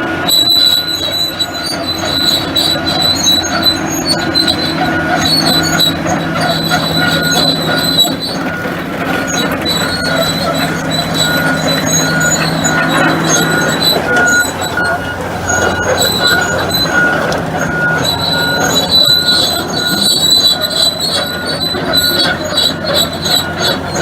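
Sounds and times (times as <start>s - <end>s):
excavator diesel engine running: 0.0s - 24.0s
high-pitched metallic squeal: 0.0s - 24.0s.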